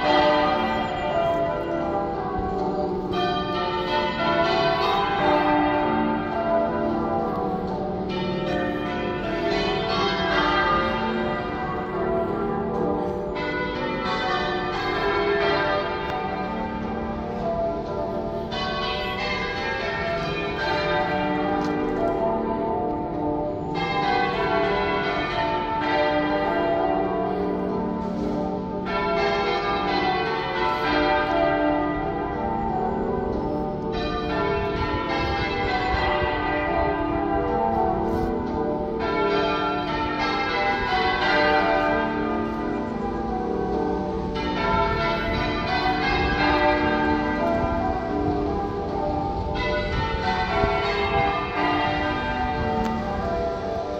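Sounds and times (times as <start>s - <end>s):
half-muffled church bells ringing: 0.0s - 53.9s.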